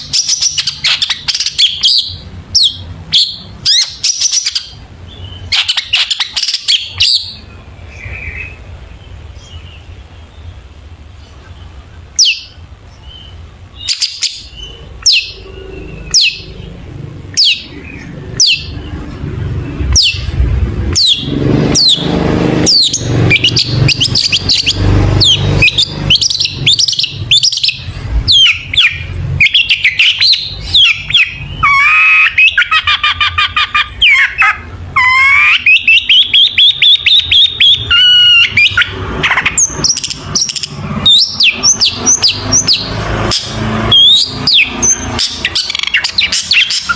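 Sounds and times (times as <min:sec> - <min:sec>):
bird singing calls and trills: 0:00.0 - 0:46.9.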